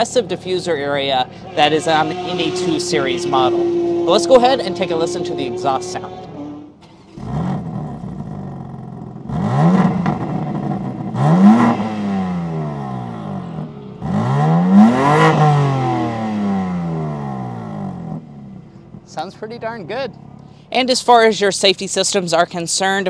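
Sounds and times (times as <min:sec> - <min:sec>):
car engine revving: 0:00.0 - 0:20.5.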